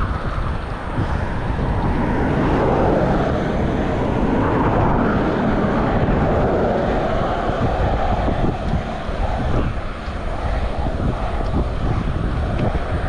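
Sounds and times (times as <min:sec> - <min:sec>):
cars passing by: 0:00.0 - 0:13.0
wind rumble on microphone: 0:00.0 - 0:13.0.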